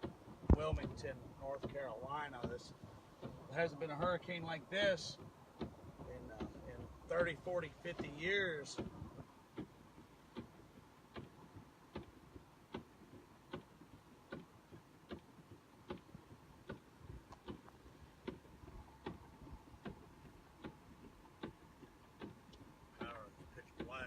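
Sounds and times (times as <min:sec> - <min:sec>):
ticking inside car: 0:00.0 - 0:24.0.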